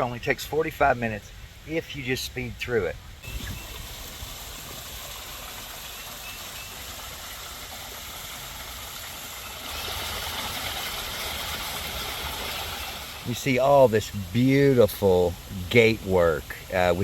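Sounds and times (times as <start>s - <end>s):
even hiss: 0.0s - 17.0s.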